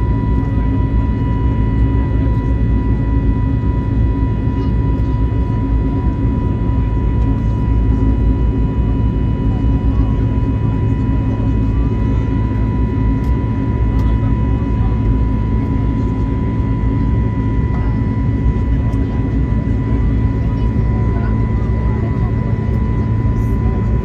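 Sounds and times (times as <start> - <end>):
jet engines roaring with high whine: 0.0 - 24.0.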